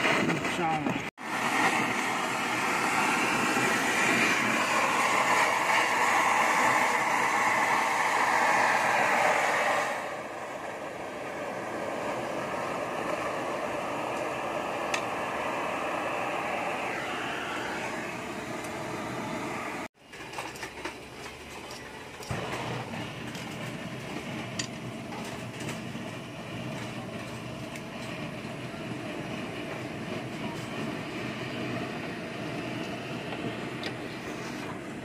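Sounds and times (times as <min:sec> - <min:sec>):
gas torch flame hissing: 0:00.0 - 0:20.0, 0:22.2 - 0:35.0.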